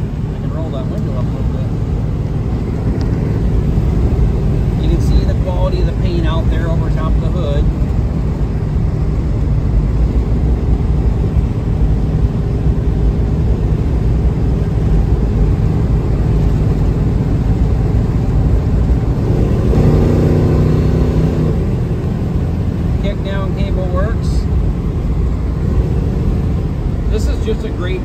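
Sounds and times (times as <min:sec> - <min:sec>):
car engine cruising: 0:00.0 - 0:28.0.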